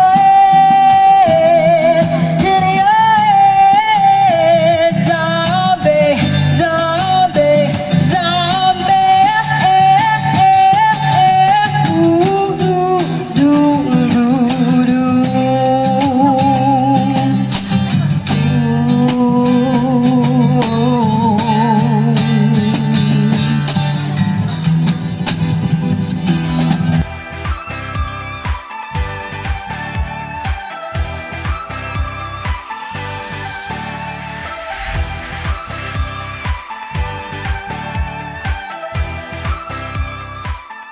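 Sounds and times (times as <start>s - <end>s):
strummed guitar: 0.0s - 34.2s.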